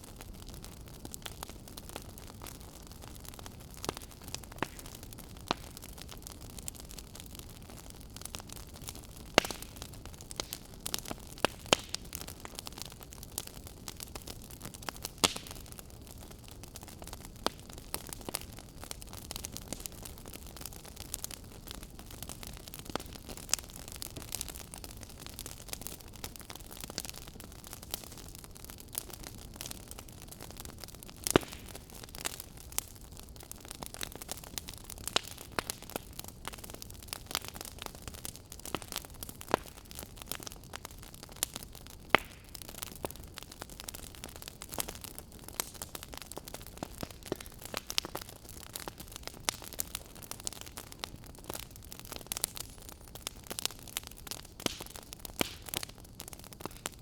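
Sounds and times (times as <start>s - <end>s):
wood fire crackling: 0.0s - 57.0s
fire snapping: 0.1s - 57.0s.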